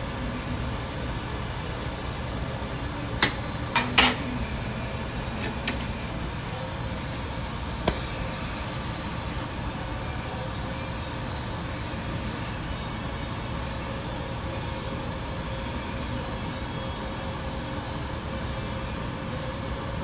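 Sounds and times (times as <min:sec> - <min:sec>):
gas flame rumbling: 0:00.0 - 0:20.0.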